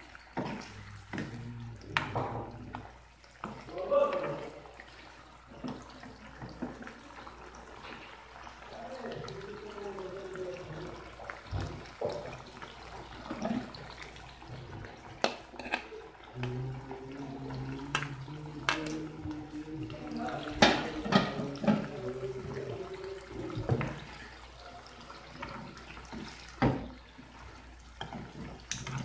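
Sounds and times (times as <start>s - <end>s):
broth bubbling in a wok: 0.0s - 29.0s.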